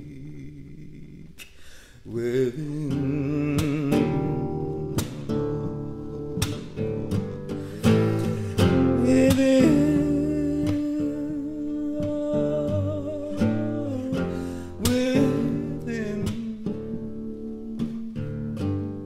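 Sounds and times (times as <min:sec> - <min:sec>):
man singing: 0:00.0 - 0:18.8
acoustic guitar strumming: 0:02.2 - 0:19.0.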